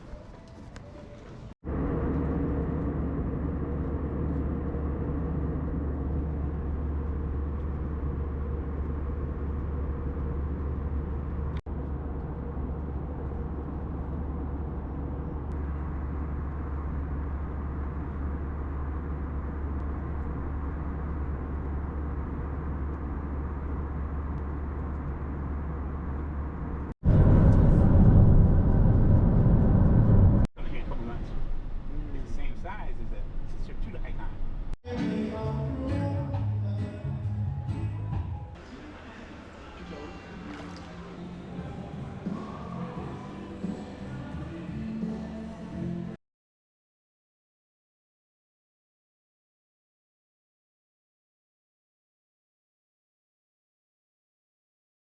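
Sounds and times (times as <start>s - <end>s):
low rumble of moving vehicle: 0.0s - 46.2s.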